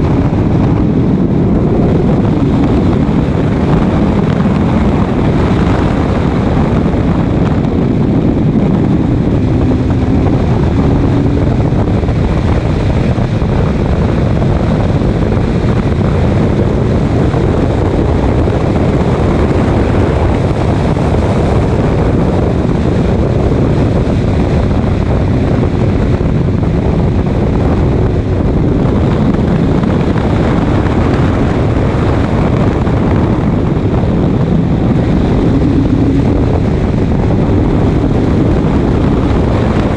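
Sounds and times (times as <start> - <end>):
race car engine: 0.0 - 39.9
wind buffeting microphone: 0.0 - 39.9.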